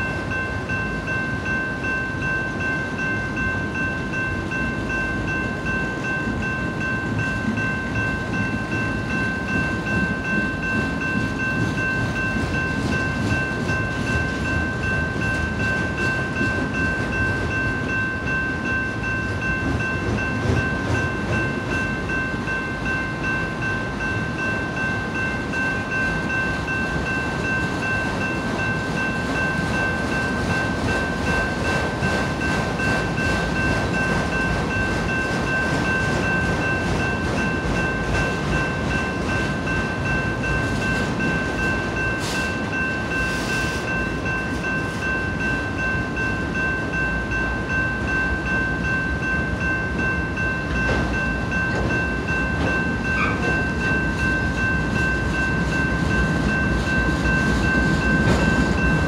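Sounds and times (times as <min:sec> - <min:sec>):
crossing warning bell ringing: 0:00.0 - 0:59.0
freight train wheels rattling: 0:00.1 - 0:59.0.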